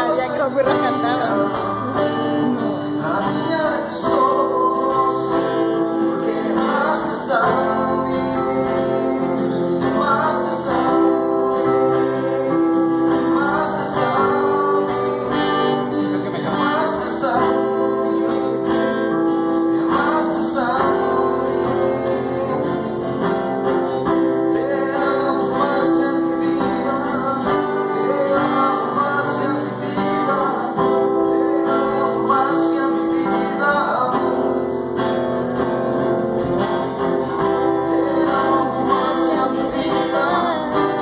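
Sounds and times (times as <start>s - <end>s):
acoustic guitars picked and strummed: 0.0s - 41.0s.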